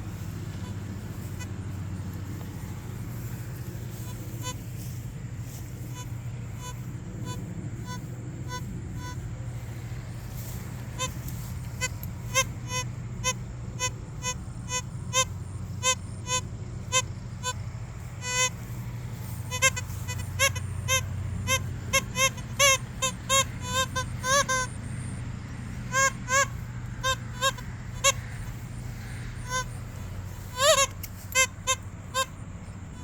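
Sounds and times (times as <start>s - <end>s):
geese honking: 0.0s - 33.0s
low traffic rumble: 0.0s - 33.0s.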